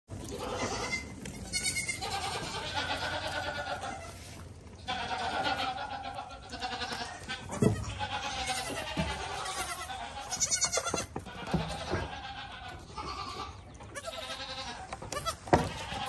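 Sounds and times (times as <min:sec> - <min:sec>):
goat kids bleating: 0:00.2 - 0:16.0.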